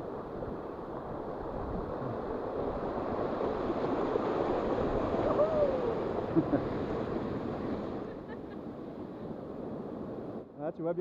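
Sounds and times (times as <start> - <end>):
river water rushing: 0.1 - 10.3.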